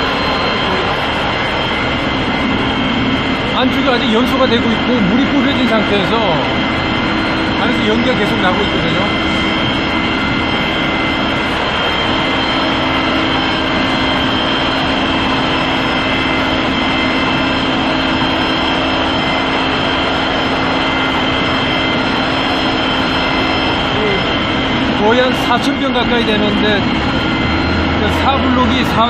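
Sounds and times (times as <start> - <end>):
high mechanical whines: 0.0 - 29.0
large machinery running: 0.0 - 29.0.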